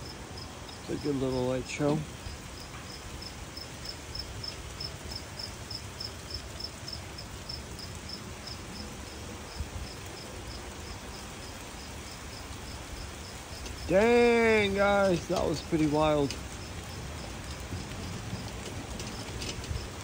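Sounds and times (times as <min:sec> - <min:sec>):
light rain hissing: 0:00.0 - 0:20.0
cricket chirping: 0:01.9 - 0:20.0.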